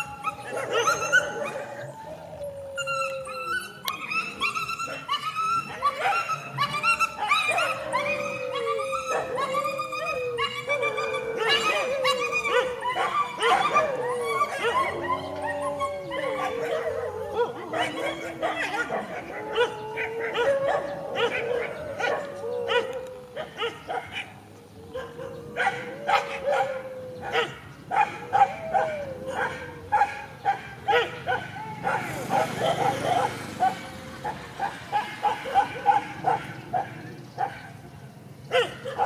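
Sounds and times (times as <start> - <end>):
dogs yelping and barking: 0.0 - 39.0.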